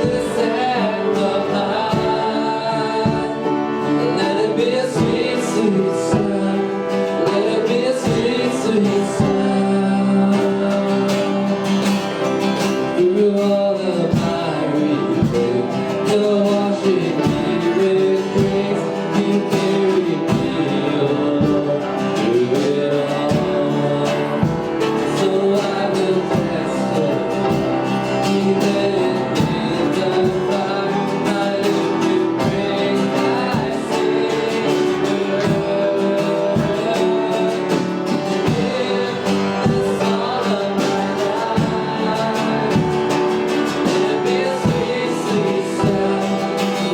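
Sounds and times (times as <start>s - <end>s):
guitar and instruments with beat: 0.0s - 46.9s
person singing: 0.0s - 46.9s.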